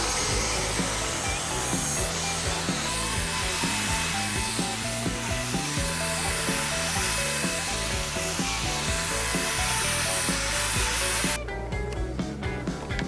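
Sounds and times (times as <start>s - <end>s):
power sander on wood: 0.0s - 11.4s
background music with beat: 0.0s - 13.0s.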